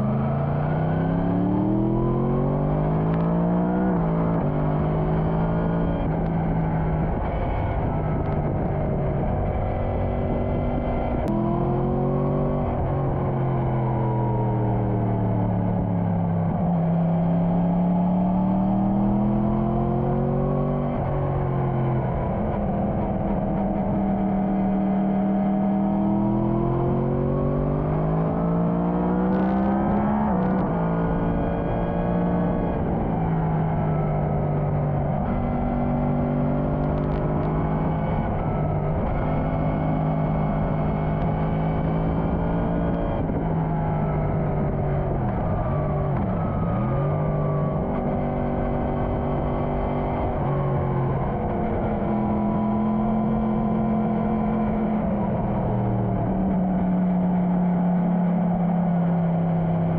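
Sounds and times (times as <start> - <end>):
motorcycle engine accelerating: 0.0 - 59.9
wind and road noise: 0.0 - 59.9.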